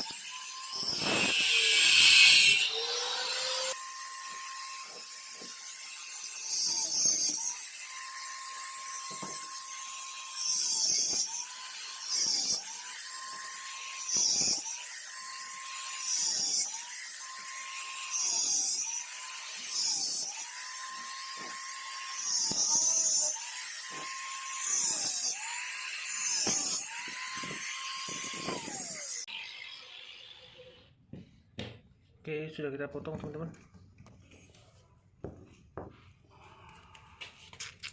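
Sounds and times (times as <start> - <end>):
small electric cutting tool whining: 0.0 - 30.9.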